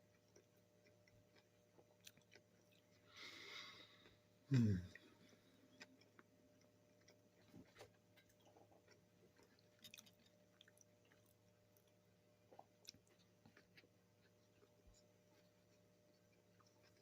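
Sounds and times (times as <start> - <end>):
chewing with mouth clicks: 0.0 - 3.1, 4.9 - 17.0
faint steady hum: 0.0 - 17.0.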